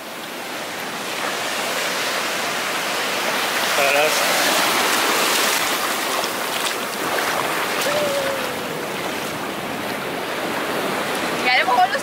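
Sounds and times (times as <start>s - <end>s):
surf washing over sand: 0.0s - 12.0s.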